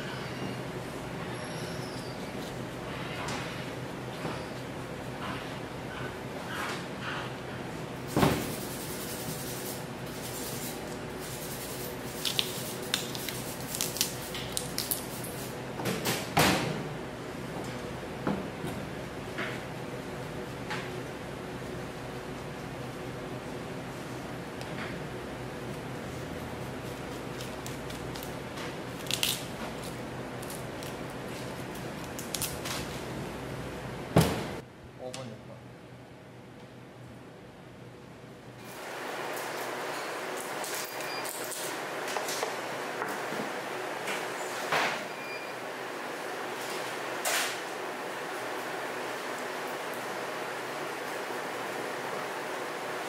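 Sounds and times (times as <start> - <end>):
room hum: 0.0 - 53.0.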